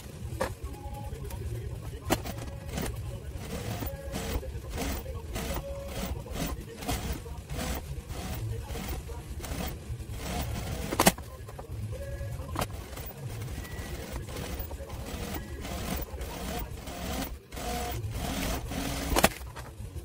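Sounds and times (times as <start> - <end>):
fabric handling clicks and scraping: 0.0 - 20.0.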